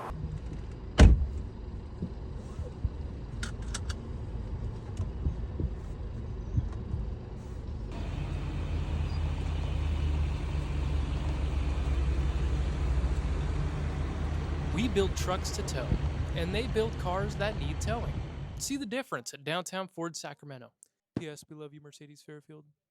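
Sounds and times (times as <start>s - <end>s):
vehicle engine rumbling: 0.0s - 18.8s.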